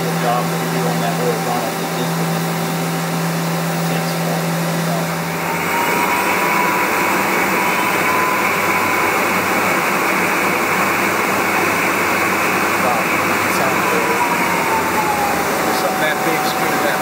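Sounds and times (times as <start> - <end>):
faint whine: 0.0 - 17.0
lathe machine rushing noise: 0.0 - 17.0
low hum: 0.0 - 17.0.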